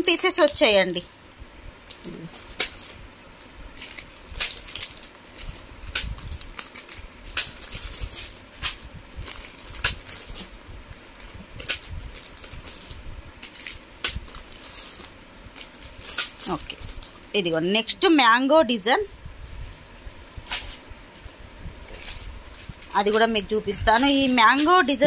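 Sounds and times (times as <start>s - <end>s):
plastic packets rustling and crinkling: 1.8s - 17.6s, 19.4s - 25.0s.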